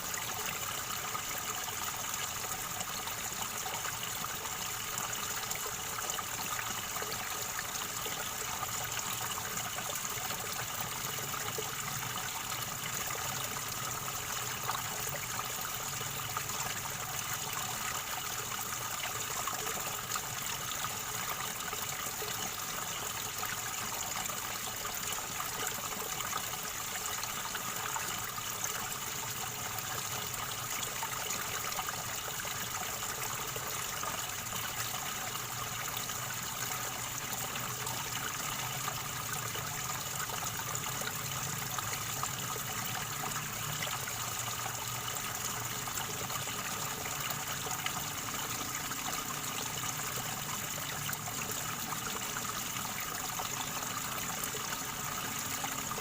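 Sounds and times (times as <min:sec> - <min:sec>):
river water gurgling over stones: 0:00.0 - 0:56.0.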